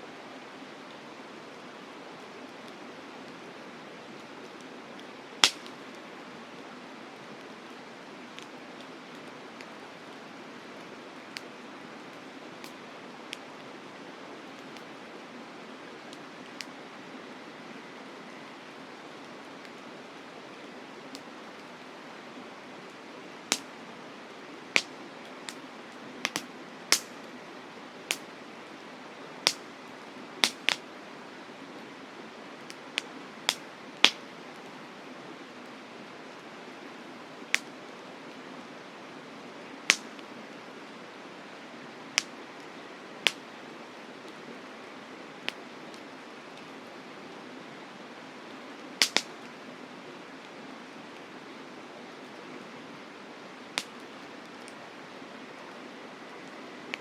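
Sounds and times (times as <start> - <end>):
steady rushing hiss: 0.0 - 57.0
campfire crackling: 0.4 - 57.0.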